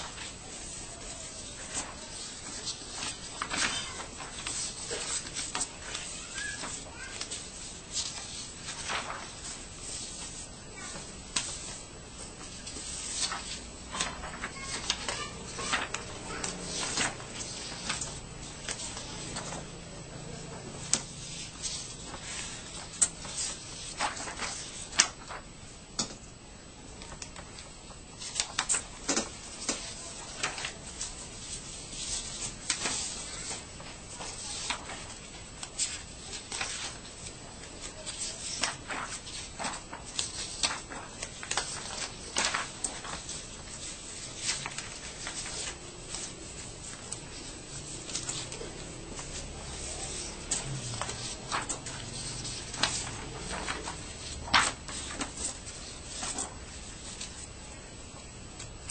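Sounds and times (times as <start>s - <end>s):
paper rustling and crackling: 0.0s - 26.1s, 26.8s - 58.9s.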